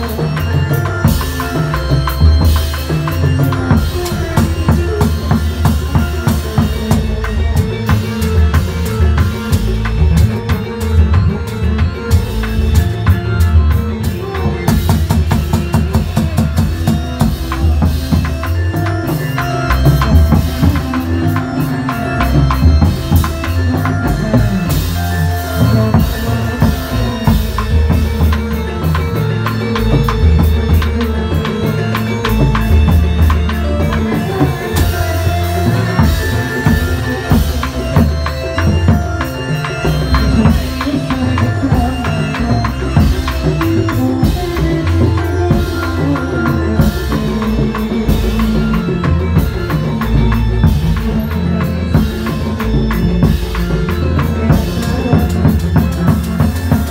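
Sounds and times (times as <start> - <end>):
fast driving drum rhythm: 0.0 - 56.9
held melodic line: 0.0 - 56.9.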